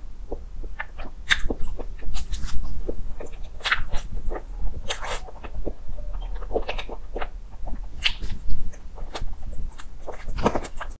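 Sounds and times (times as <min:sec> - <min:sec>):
chewing and mouth smacks: 0:00.3 - 0:11.0.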